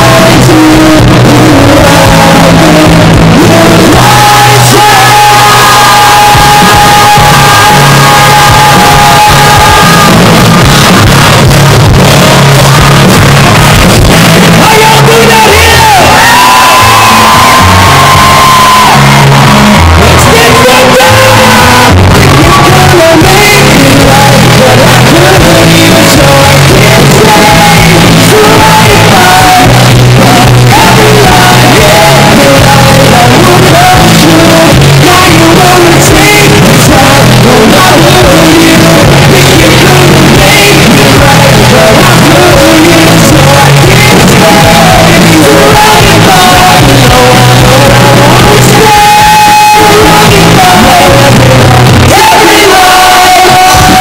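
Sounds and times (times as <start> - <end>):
shouted lead singing: 0.0 - 54.0.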